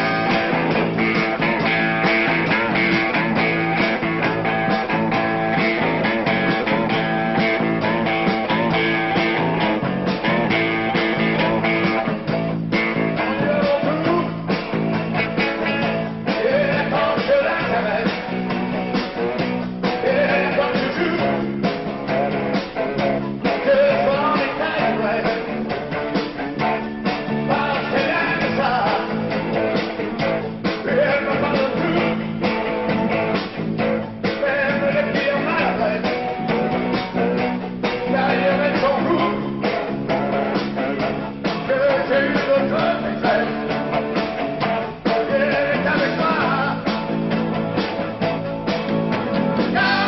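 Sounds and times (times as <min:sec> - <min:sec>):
electric guitar: 0:00.0 - 0:50.0
rock band playing: 0:00.0 - 0:50.0.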